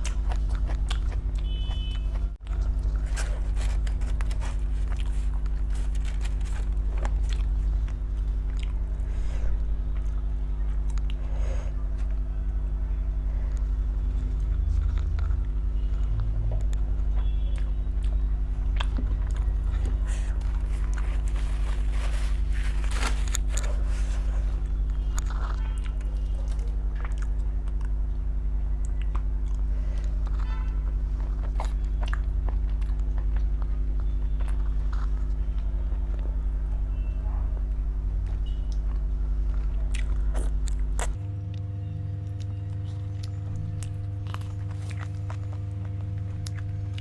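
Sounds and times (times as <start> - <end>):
person chewing food: 0.0 - 12.2, 13.6 - 28.0, 28.8 - 35.6, 38.2 - 47.0
low steady hum: 0.0 - 47.0.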